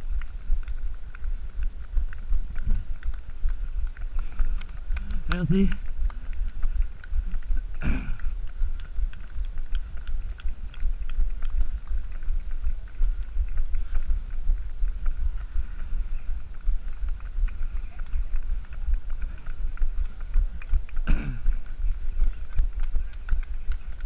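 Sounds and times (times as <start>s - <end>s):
runner's footsteps tapping: 0.0s - 24.0s
wind buffeting microphone: 0.0s - 24.0s.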